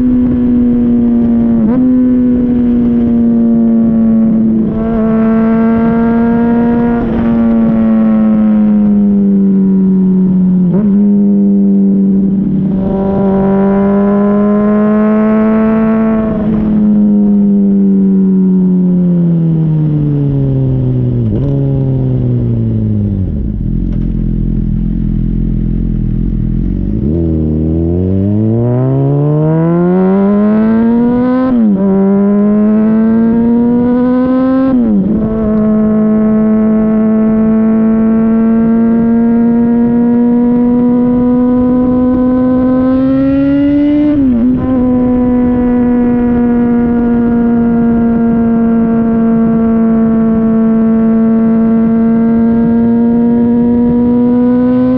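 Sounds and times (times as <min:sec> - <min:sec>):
motorcycle engine revving and shifting: 0:00.0 - 0:54.9.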